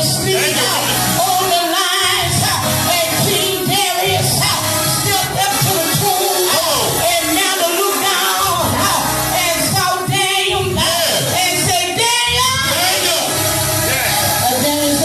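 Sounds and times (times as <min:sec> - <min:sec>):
people singing worship music: 0:00.0 - 0:15.0.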